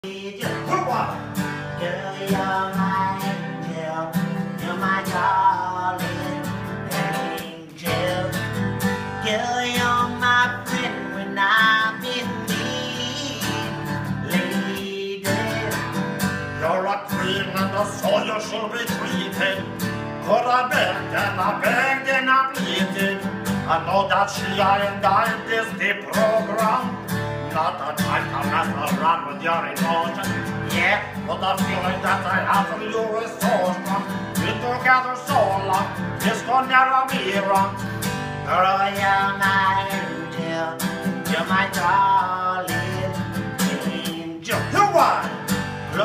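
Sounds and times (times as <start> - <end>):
acoustic guitar strumming: 0.0 - 46.0
man singing: 0.0 - 46.0.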